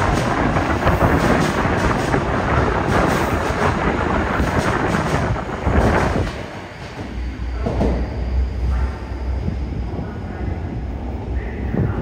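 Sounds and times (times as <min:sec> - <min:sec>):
subway train rumbling past: 0:00.0 - 0:12.0.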